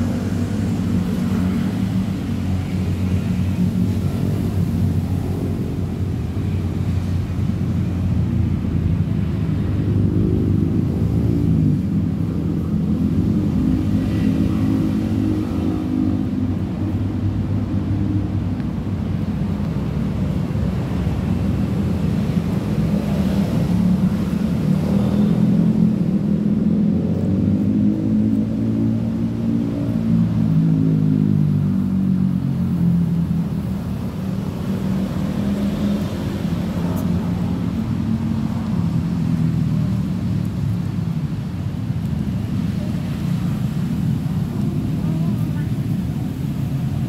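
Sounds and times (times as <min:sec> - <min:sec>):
low engine hum: 0:00.0 - 0:47.0.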